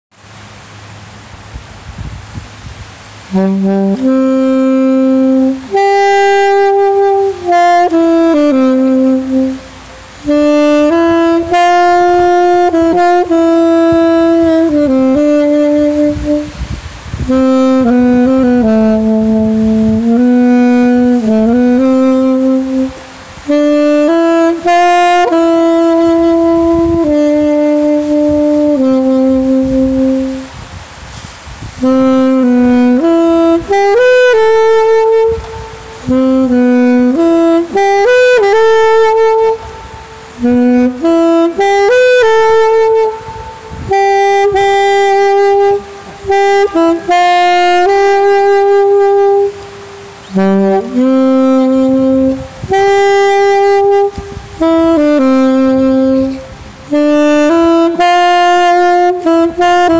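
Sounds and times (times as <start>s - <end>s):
saxophone slow melody: 0.2s - 59.9s.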